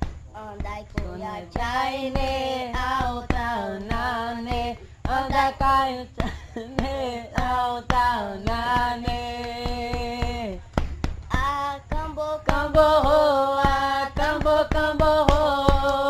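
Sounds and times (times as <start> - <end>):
percussive beat: 0.0 - 16.0.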